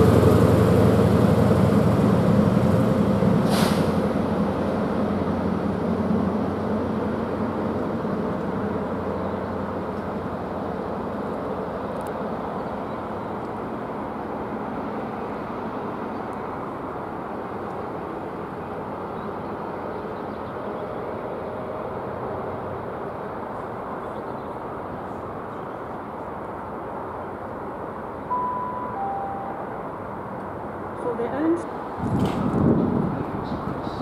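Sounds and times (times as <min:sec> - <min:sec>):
diesel train drone: 0:00.0 - 0:34.0.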